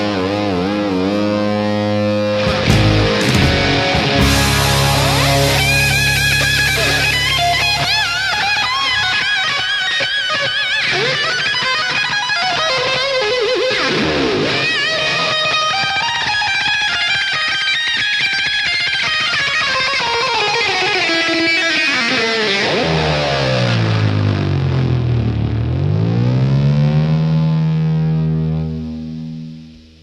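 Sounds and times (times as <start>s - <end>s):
electric guitar music with vibrato: 0.0s - 30.0s.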